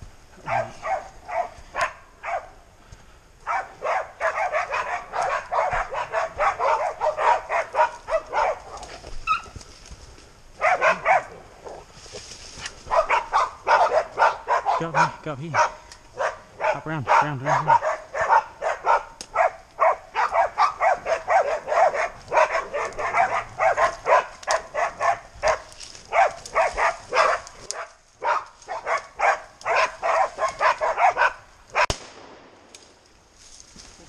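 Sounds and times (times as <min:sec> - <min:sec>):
dog barking rapidly: 0:00.4 - 0:02.5, 0:03.4 - 0:09.5, 0:10.6 - 0:11.4, 0:12.8 - 0:31.9.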